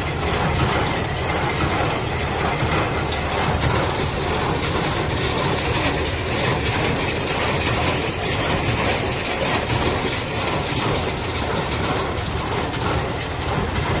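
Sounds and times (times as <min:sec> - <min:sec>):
hay baler clattering: 0:00.0 - 0:14.0
low engine drone: 0:00.0 - 0:14.0.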